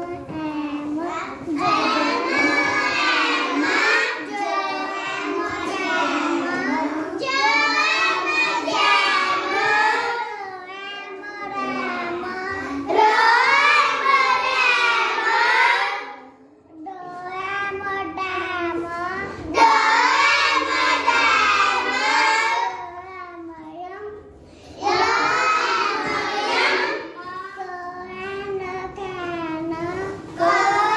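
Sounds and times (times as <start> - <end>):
girl reading words aloud: 0.0 - 30.9.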